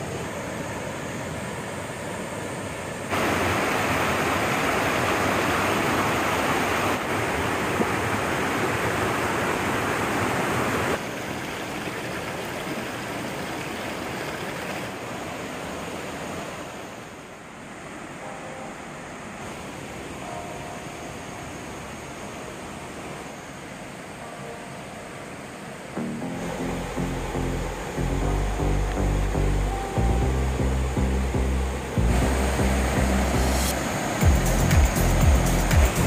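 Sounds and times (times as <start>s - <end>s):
stream rushing over boulders: 0.0s - 36.0s.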